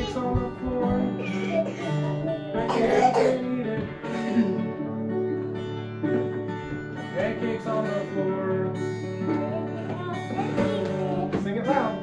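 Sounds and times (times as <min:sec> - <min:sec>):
acoustic guitar strummed: 0:00.0 - 0:12.0.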